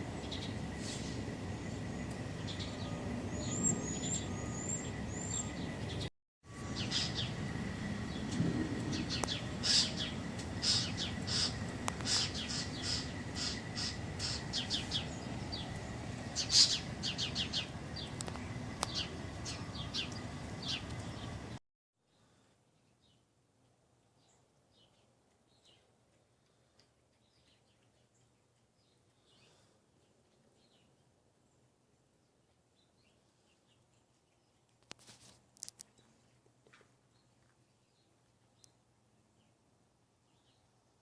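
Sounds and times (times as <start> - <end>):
small birds chirping: 0.0 - 35.0, 35.6 - 41.0.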